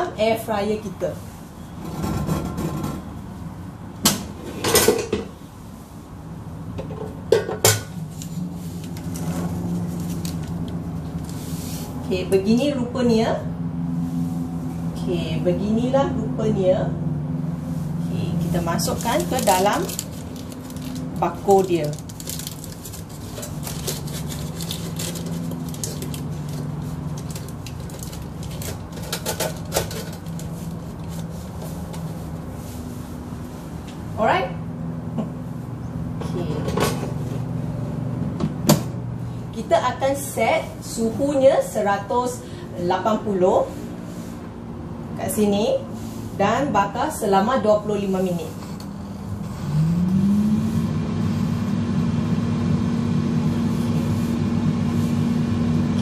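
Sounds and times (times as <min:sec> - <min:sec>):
steady low hum: 0:03.1 - 0:56.0.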